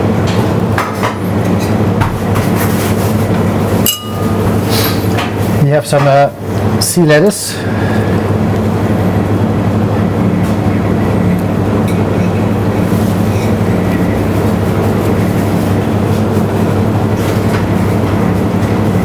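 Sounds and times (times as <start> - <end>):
kitchen extraction fans humming: 0.0 - 19.0.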